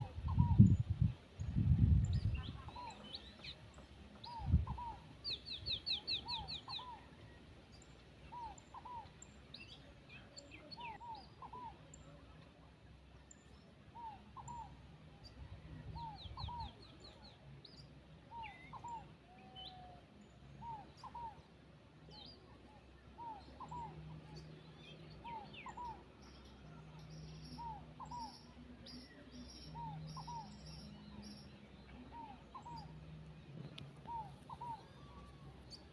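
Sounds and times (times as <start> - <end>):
other birds chirping: 0.0 - 12.4, 13.0 - 35.9.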